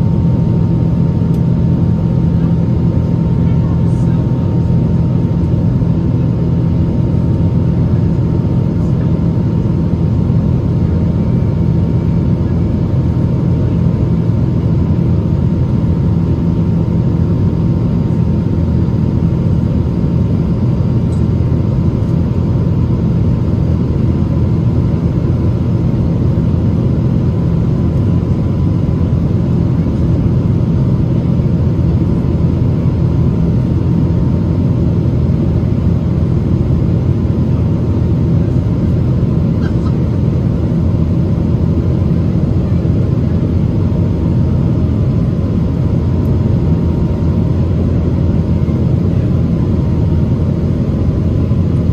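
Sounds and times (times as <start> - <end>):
jet engine low rumble: 0.0 - 51.9
thin steady whine: 0.0 - 51.9.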